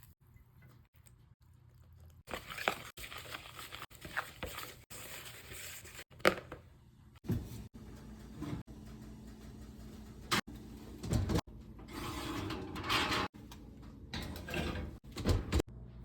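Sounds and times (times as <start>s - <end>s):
kitchen rustles and scrapes: 2.2s - 15.7s.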